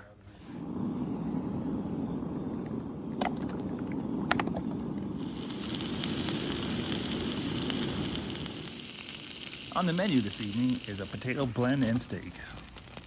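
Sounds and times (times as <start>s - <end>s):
campfire crackling: 0.4s - 13.0s
food sizzling: 0.6s - 13.0s.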